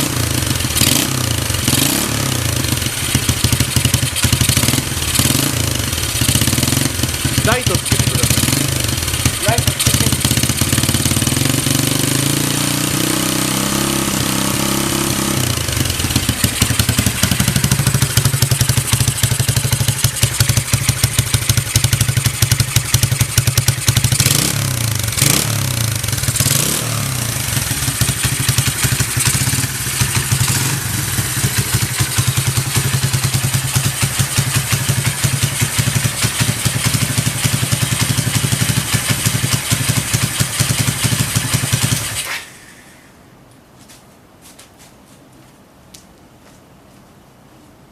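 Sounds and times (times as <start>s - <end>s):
motorcycle engine idling: 0.0s - 42.7s.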